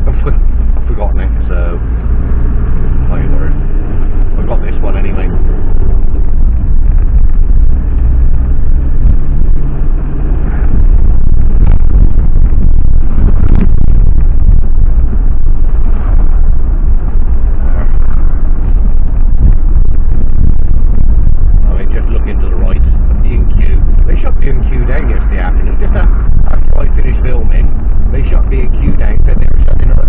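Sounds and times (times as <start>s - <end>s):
van engine and road rumble: 0.0s - 30.0s.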